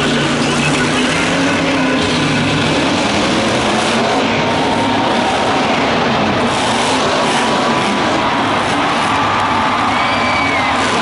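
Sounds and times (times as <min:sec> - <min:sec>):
truck engine running at high power: 0:00.0 - 0:11.0.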